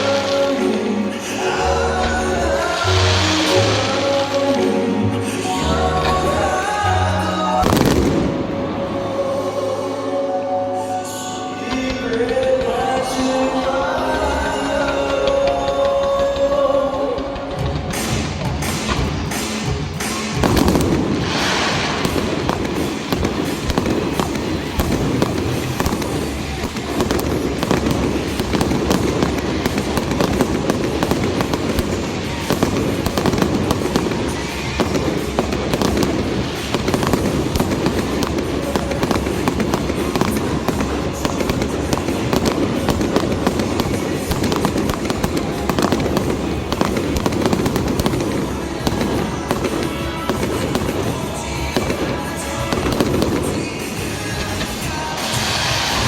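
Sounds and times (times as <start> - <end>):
fireworks bangs and crackling: 0.0 - 56.0
music playing: 0.0 - 56.0.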